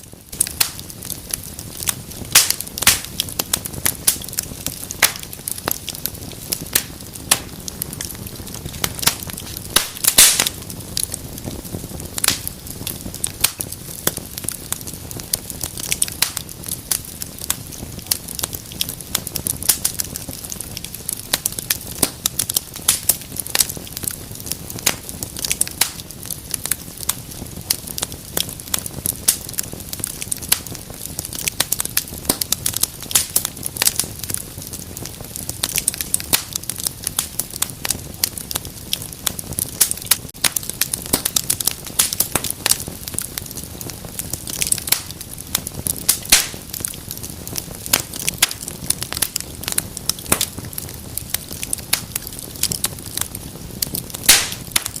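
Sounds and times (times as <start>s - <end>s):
fire crackling and popping: 0.0s - 55.0s
flames rumbling: 0.0s - 55.0s.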